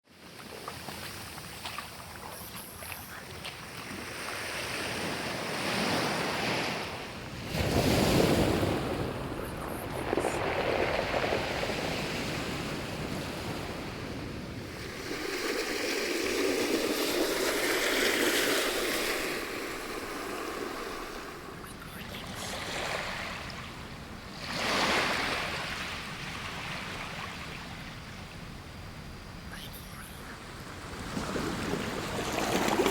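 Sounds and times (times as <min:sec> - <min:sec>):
ocean waves breaking: 0:00.8 - 0:28.1, 0:29.1 - 0:32.9.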